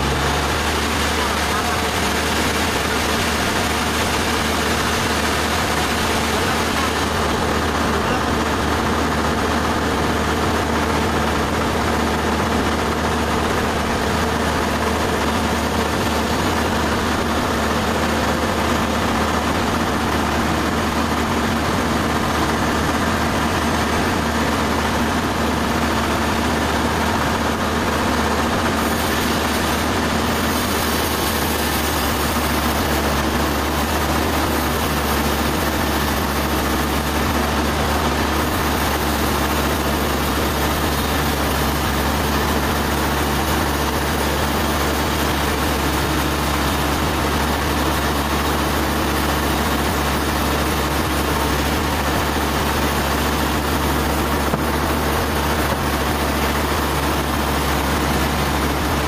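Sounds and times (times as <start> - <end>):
sawmill machinery drone: 0.0 - 59.0.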